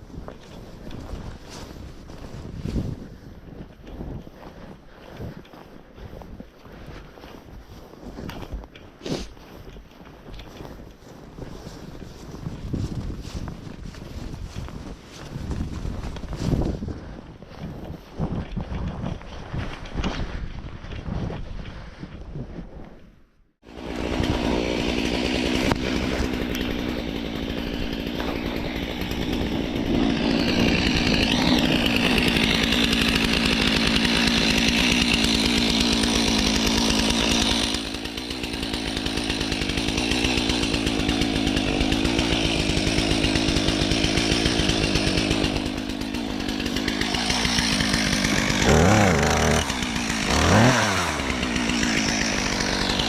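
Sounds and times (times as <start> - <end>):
chainsaw cutting wood: 0.0 - 5.6, 6.8 - 20.2, 23.6 - 53.0.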